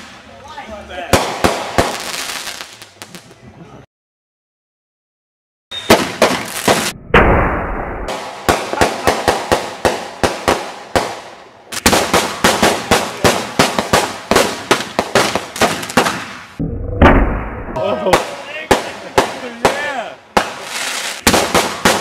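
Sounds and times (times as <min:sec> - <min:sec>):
fireworks bangs and pops: 0:01.1 - 0:03.4, 0:05.8 - 0:22.0.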